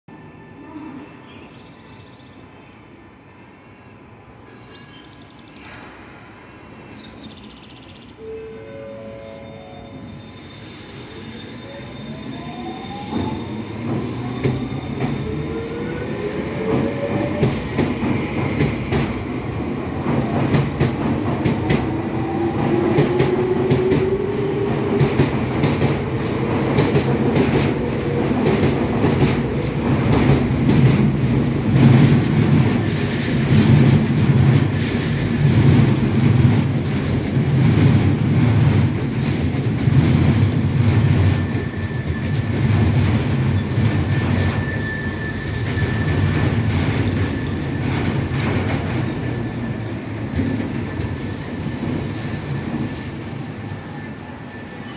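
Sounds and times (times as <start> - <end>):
train passing on next track: 0.1 - 54.9.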